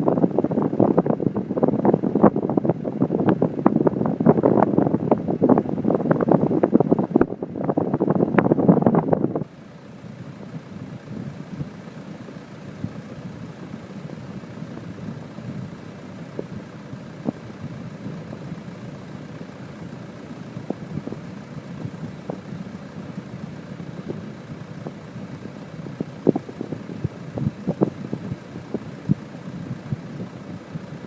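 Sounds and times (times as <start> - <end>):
aircraft rumble: 0.0 - 31.0.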